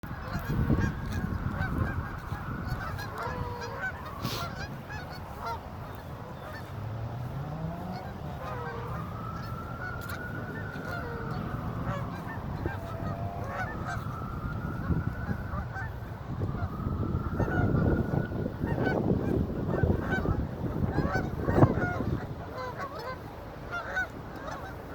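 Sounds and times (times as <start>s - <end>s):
geese honking: 0.0s - 24.9s.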